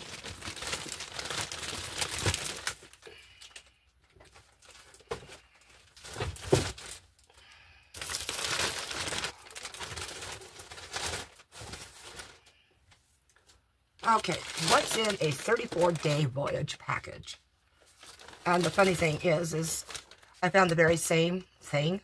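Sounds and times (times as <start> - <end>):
plastic mailer bags crinkling: 0.0 - 12.6, 13.4 - 17.0, 17.8 - 21.2.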